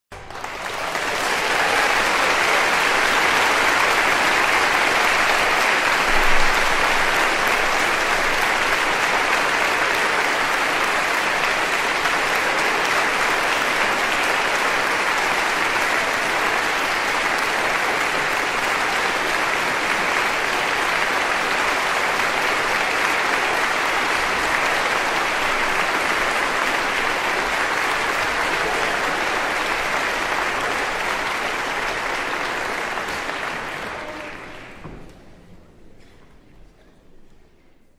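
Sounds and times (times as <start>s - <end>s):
large crowd clapping: 0.1s - 36.1s.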